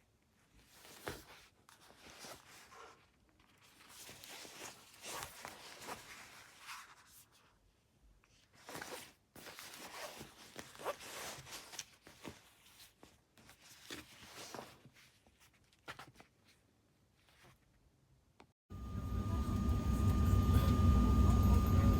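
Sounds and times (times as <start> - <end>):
rustling and scraping of handled things: 0.1 - 17.9.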